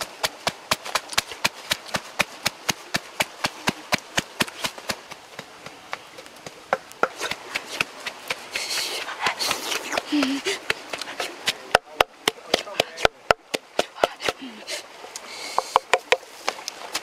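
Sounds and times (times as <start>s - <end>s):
pestle pounding in wooden mortar: 0.0s - 14.4s.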